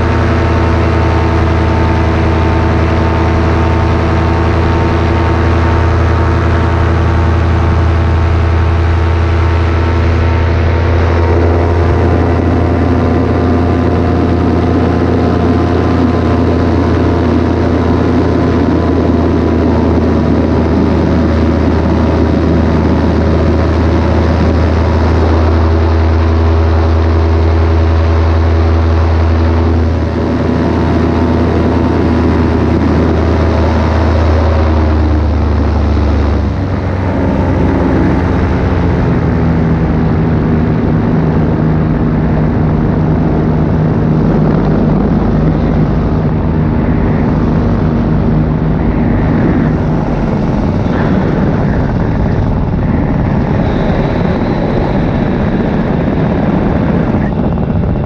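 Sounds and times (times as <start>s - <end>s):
paramotor engine and propeller: 0.0s - 58.0s.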